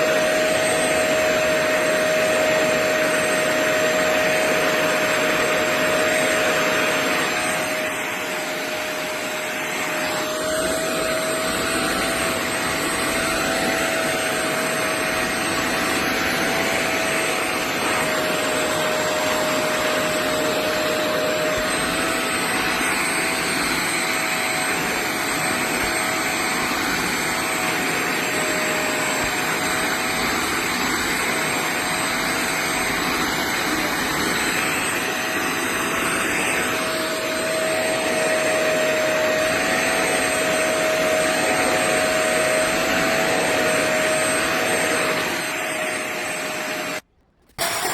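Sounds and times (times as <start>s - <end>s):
wet vacuum cleaner running: 0.0s - 47.9s.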